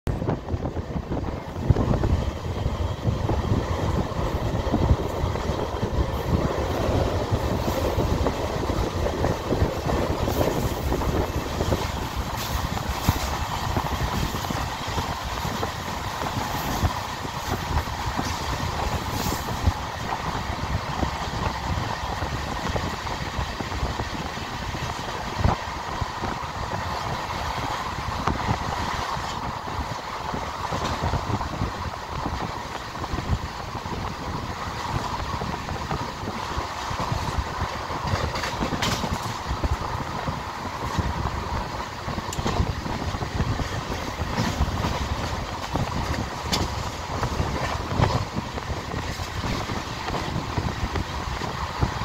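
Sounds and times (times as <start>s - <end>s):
train wheels rumbling on rails: 0.0s - 52.0s
rushing air: 0.1s - 52.0s.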